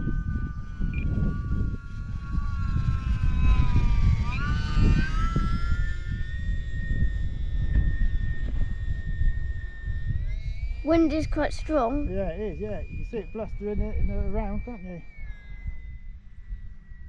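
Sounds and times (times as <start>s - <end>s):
model plane motor whining: 0.0s - 17.0s
wind rumbling on microphone: 0.0s - 17.0s.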